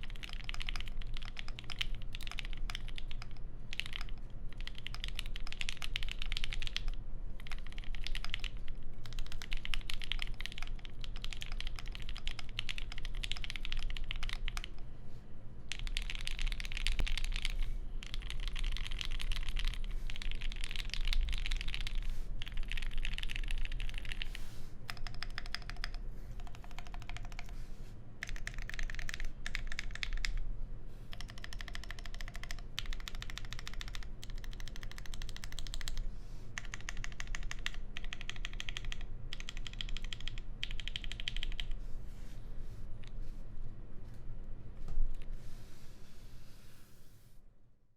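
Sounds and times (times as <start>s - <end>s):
typing on mechanical keyboard: 0.0s - 14.8s, 15.7s - 27.6s, 28.2s - 30.4s, 31.1s - 41.8s.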